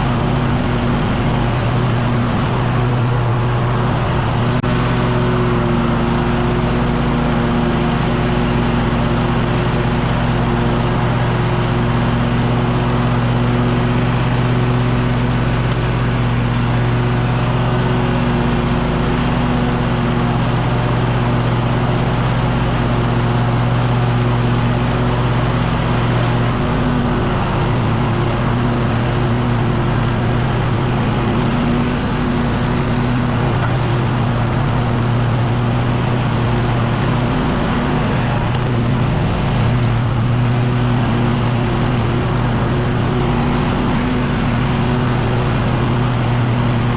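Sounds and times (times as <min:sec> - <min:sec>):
leaf blower running: 0:00.0 - 0:46.9.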